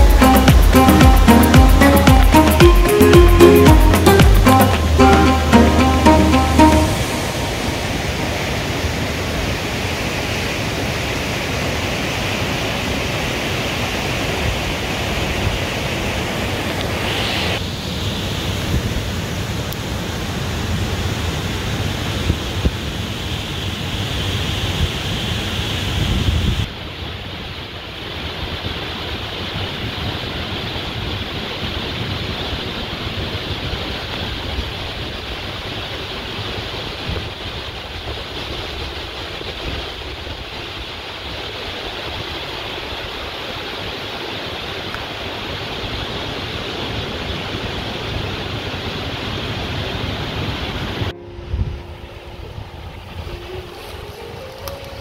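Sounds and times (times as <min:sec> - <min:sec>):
water rushing over rocks: 0:00.0 - 0:26.0, 0:26.6 - 0:51.1.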